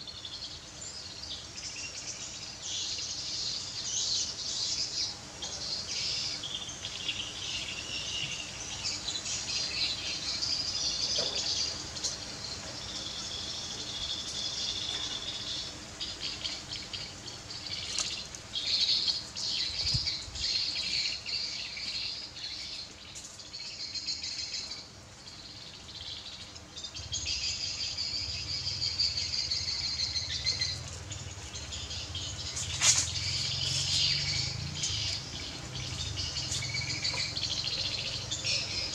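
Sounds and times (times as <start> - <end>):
birds chirping: 0.0 - 38.9
insects trilling: 0.0 - 38.9.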